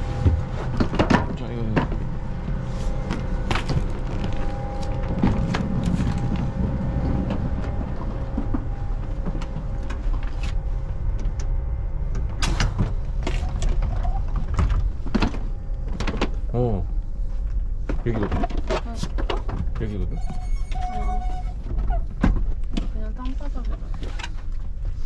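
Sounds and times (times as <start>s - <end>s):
train rumble and hum: 0.0s - 25.0s.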